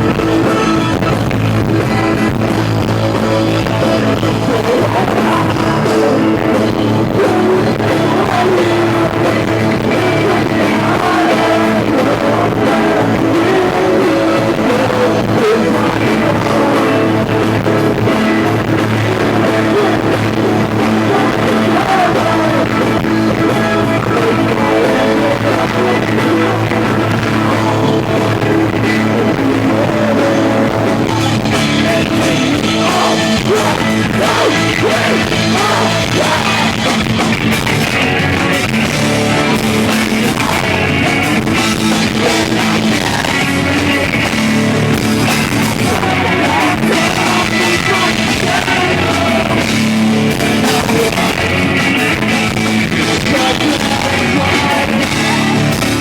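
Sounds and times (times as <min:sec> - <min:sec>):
electric guitar: 0:00.0 - 0:56.0
live rock band playing: 0:00.0 - 0:56.0
sung vocals: 0:00.0 - 0:56.0.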